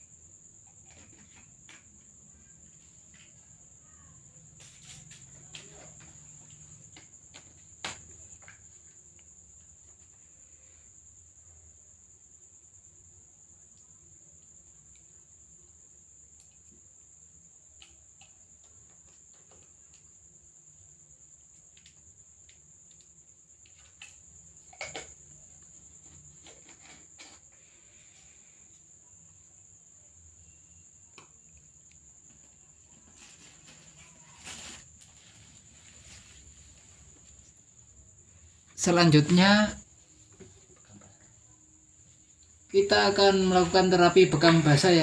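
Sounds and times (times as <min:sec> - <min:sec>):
faint high-pitched whine: 0:00.0 - 0:45.0.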